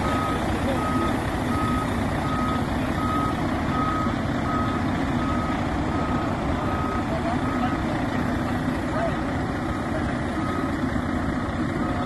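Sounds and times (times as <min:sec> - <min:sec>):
reverse alarm beeping: 0:00.0 - 0:07.8, 0:09.6 - 0:12.0
low engine rumble: 0:00.0 - 0:12.0.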